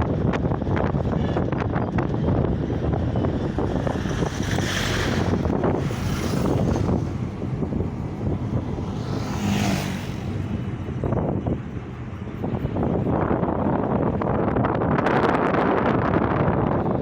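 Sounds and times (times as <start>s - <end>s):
car engine and road noise: 0.0s - 17.0s
wind buffeting microphone: 0.0s - 17.0s.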